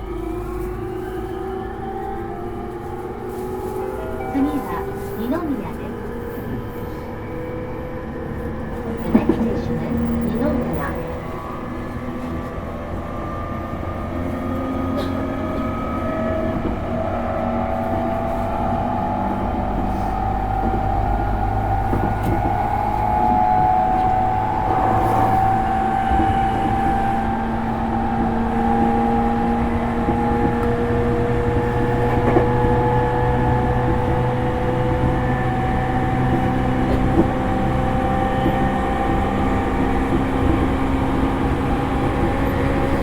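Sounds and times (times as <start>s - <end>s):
wheels rumbling on rail: 0.0s - 43.0s.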